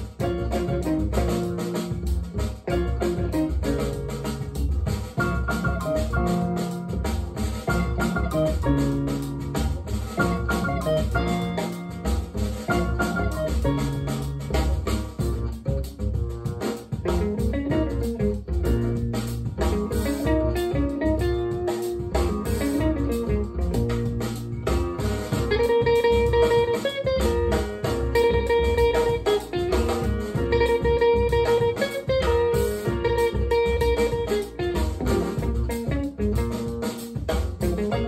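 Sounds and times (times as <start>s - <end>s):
guitar music with bass and beat: 0.0s - 38.0s.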